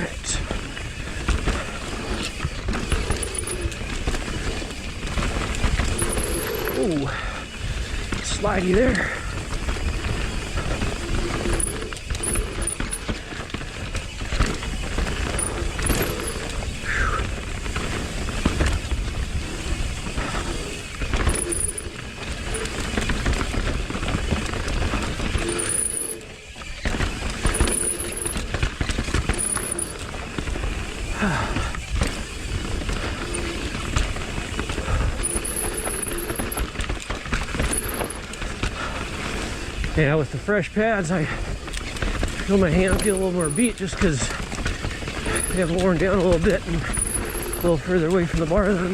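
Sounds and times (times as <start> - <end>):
disc brakes squealing: 0.0 - 30.4, 34.8 - 36.8, 37.5 - 38.3, 42.4 - 48.9
bike rattling and knocking: 0.0 - 48.9
bike tyre and wind rumble: 0.0 - 48.9.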